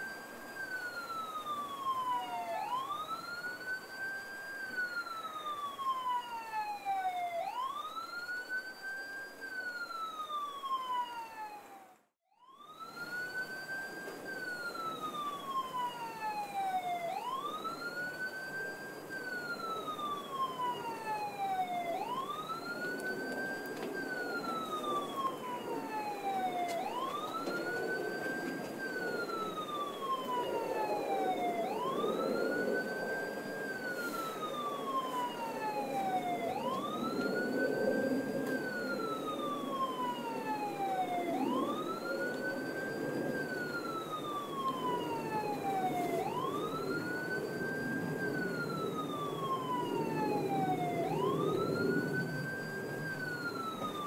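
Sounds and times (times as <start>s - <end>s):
boat siren wailing: 0.0s - 54.0s
steady background noise: 0.0s - 54.0s.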